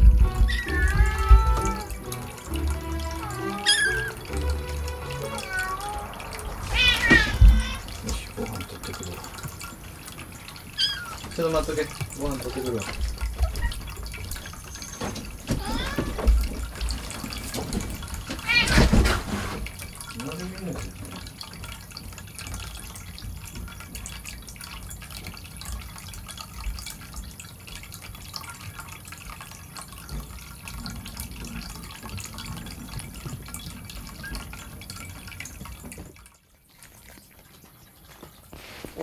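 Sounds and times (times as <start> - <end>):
water trickling and dripping: 0.0 - 39.0.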